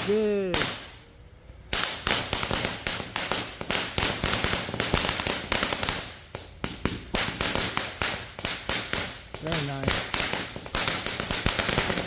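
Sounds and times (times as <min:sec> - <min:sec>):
firework fountain popping and crackling: 0:00.0 - 0:01.0, 0:01.7 - 0:12.0.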